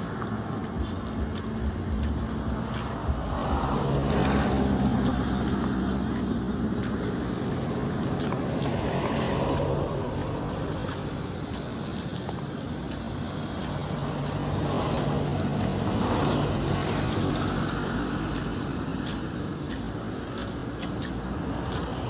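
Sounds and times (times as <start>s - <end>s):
road and wind rumble: 0.0s - 22.0s
vehicle engine hum: 0.0s - 22.0s.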